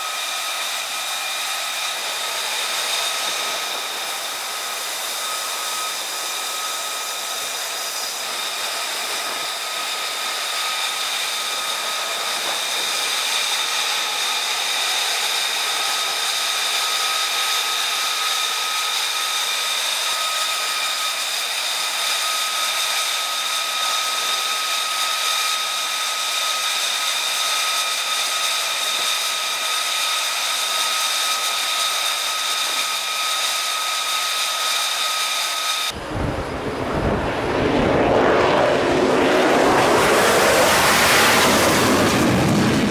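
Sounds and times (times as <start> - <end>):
jet turbine whine: 0.0 - 42.9.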